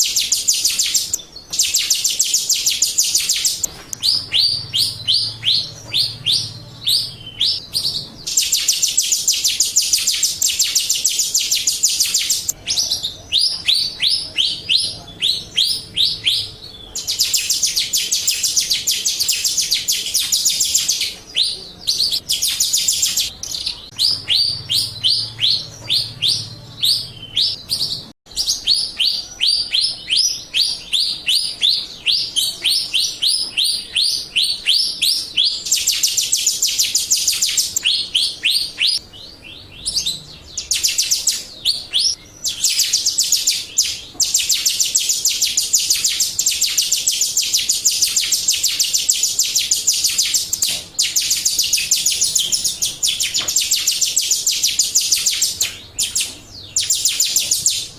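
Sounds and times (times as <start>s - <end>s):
bird chirping and twittering: 0.0s - 57.9s.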